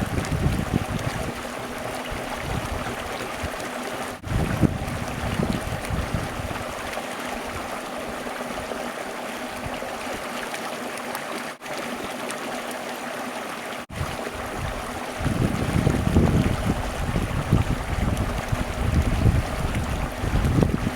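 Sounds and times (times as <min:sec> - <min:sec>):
stream water flowing: 0:00.0 - 0:20.9.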